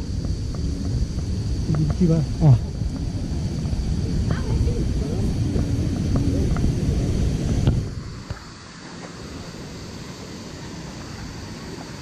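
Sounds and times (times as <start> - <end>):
background hiss: 0.0 - 12.0
wind buffeting microphone: 0.0 - 12.0.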